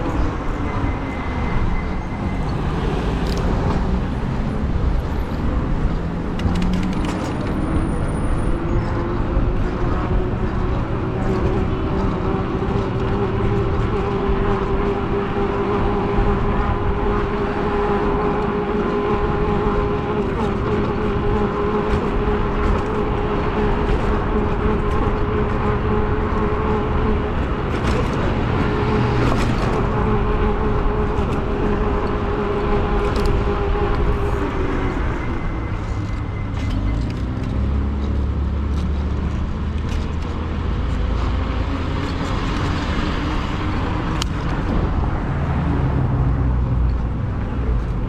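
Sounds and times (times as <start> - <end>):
cars passing: 0.0 - 48.0
e-bike motor whine: 0.0 - 48.0
wind and road noise: 0.0 - 48.0.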